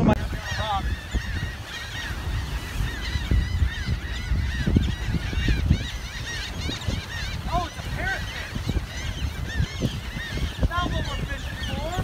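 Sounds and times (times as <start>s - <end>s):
birds chirping: 0.0s - 12.0s
surf: 0.0s - 12.0s
wind: 0.0s - 12.0s.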